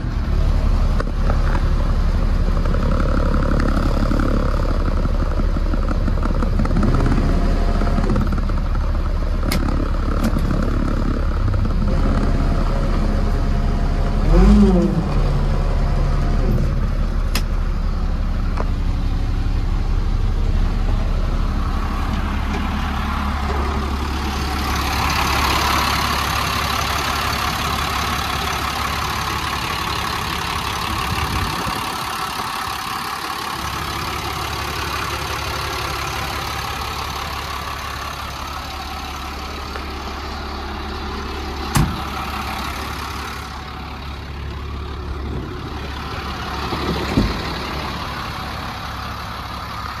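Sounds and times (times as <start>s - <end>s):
diesel truck engine droning: 0.0s - 50.0s.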